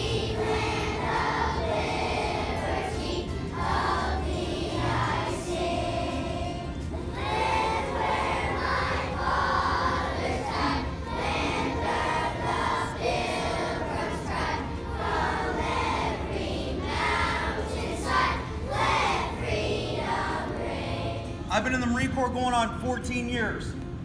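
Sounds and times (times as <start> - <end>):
children's choir singing: 0.0 - 21.5.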